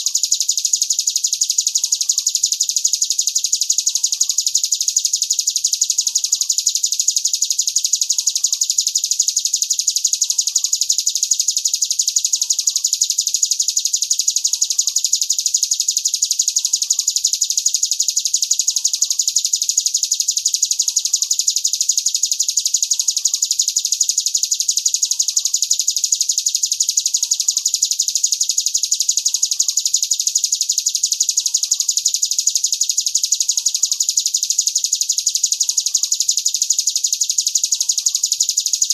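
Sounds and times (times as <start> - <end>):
songbird rapid high-pitched trill: 0.0 - 38.9.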